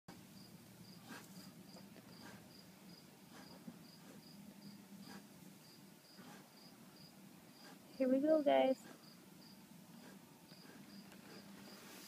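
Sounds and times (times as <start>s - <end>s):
faint cricket chirping: 0.3s - 12.0s.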